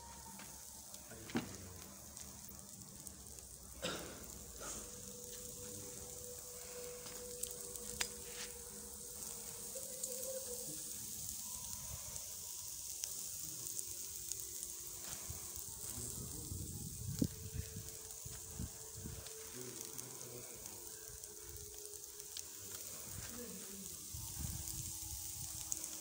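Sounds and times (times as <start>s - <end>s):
skewers sizzling on a grill: 0.0s - 26.0s.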